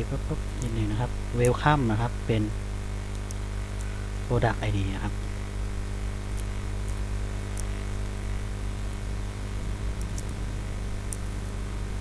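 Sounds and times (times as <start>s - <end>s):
electrical hum: 0.0s - 12.0s
recording hiss: 0.0s - 12.0s.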